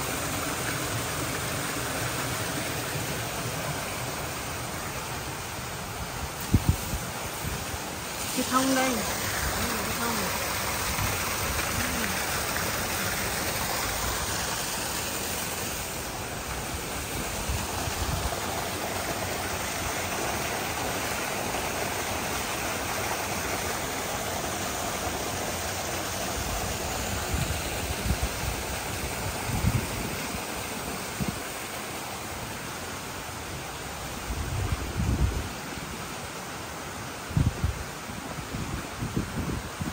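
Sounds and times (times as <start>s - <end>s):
fountain water splashing into pond: 0.0s - 39.9s.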